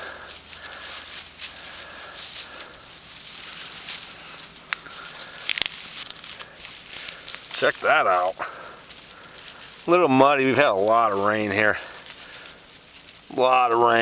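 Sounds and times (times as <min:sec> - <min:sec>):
high-pitched insect hiss: 0:00.0 - 0:14.0
plants rustling while handled: 0:00.0 - 0:14.0.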